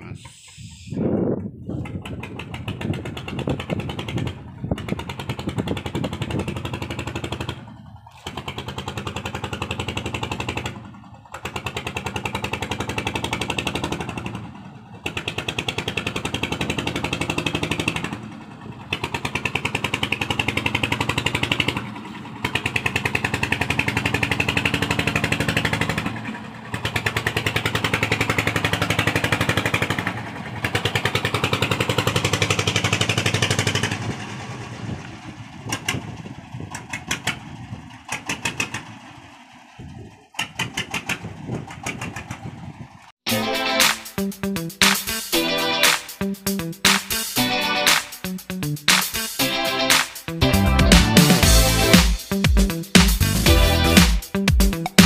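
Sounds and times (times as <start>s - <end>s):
diesel engine puttering: 0.0s - 55.0s.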